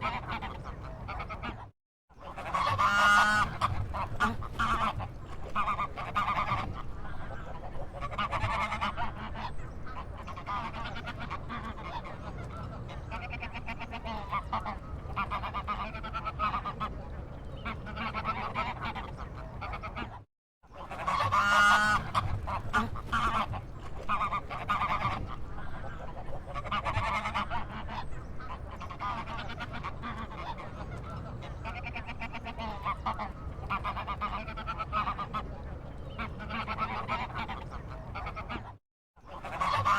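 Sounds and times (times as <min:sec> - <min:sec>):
waterfowl honking: 0:00.0 - 0:20.2, 0:20.8 - 0:39.9.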